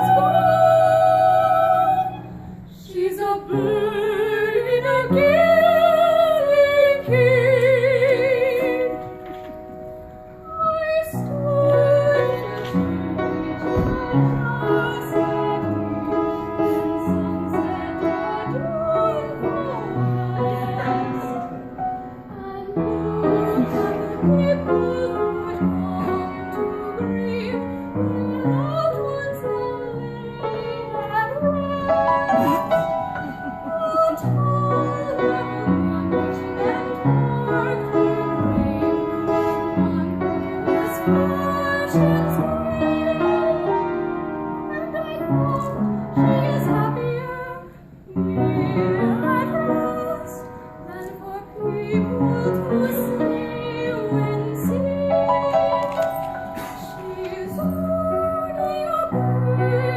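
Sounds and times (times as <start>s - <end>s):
woman singing operatically: 0.0s - 9.1s, 10.4s - 44.0s, 44.6s - 59.9s.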